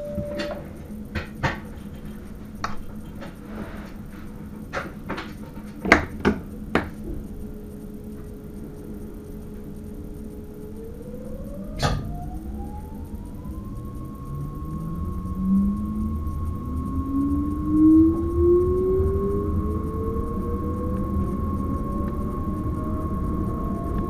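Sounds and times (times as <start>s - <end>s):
electric train whine: 0.0s - 24.0s.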